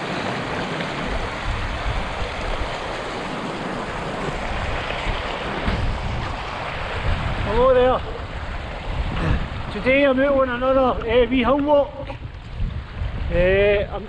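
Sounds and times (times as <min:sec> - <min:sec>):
stream rushing over rocks: 0:00.0 - 0:13.5
wind buffeting microphone: 0:00.0 - 0:14.0.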